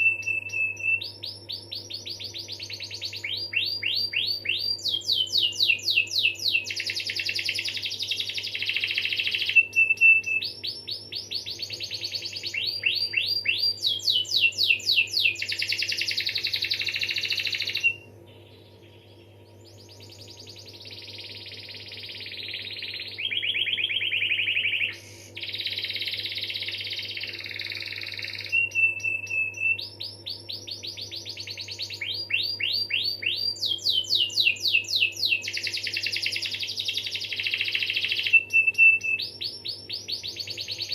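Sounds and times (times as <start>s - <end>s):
canary singing trills: 0.0s - 40.9s
faint low hum: 0.0s - 40.9s.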